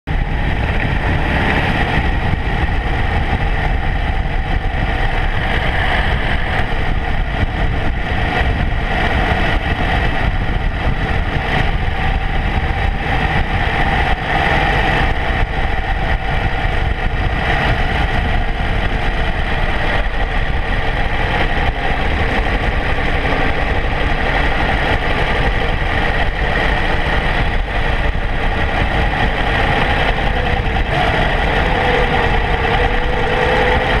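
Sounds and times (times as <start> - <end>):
wind and road noise: 0.0 - 34.0
motorcycle engine cruising: 0.1 - 34.0.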